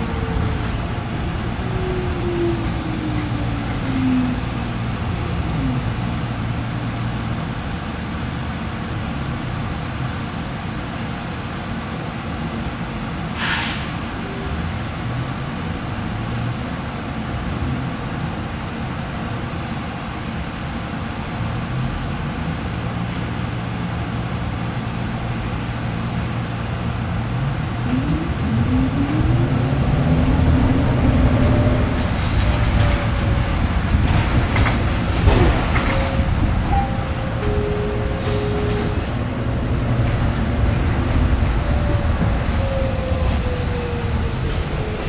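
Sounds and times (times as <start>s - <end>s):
bus cabin rumble: 0.0s - 45.0s.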